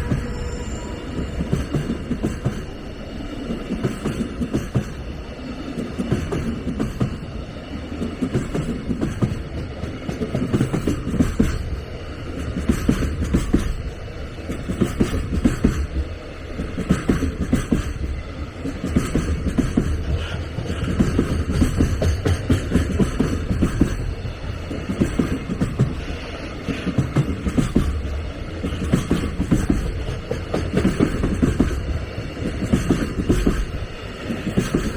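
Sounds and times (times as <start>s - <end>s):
train rumbling past: 0.0s - 34.9s
train wheel knocks: 1.2s - 2.8s, 3.5s - 34.9s.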